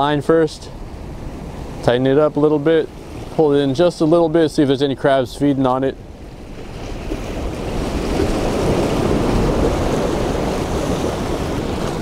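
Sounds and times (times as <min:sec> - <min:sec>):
surf washing against rocks: 0:00.0 - 0:12.0
wind: 0:00.0 - 0:12.0.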